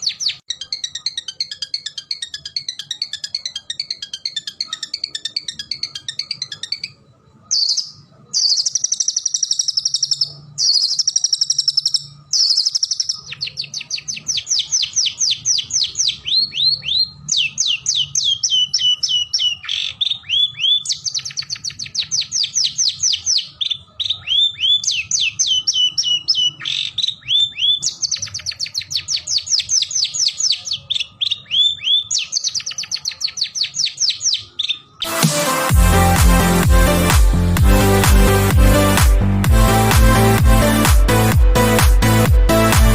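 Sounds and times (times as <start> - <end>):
bird singing: 0.0 - 35.2.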